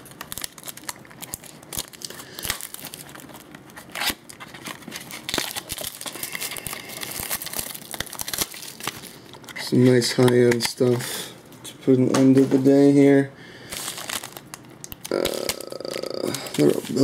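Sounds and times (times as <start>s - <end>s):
wrappers tearing and crinkling: 0.0s - 10.8s, 13.6s - 17.0s.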